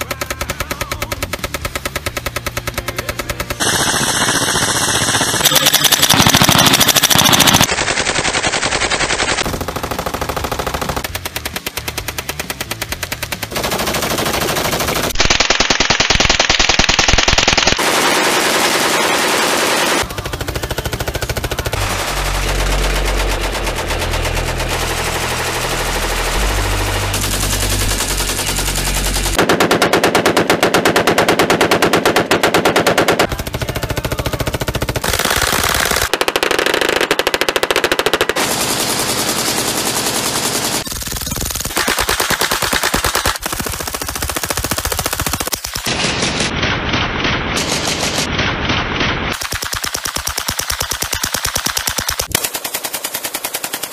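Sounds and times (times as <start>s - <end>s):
automatic gunfire: 0.0s - 53.9s.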